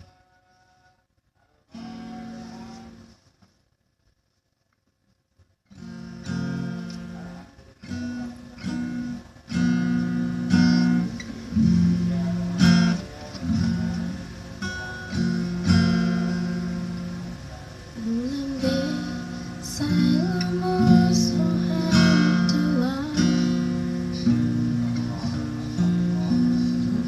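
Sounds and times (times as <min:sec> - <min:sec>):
acoustic guitar playing chords: 0:01.7 - 0:03.2, 0:05.7 - 0:27.0.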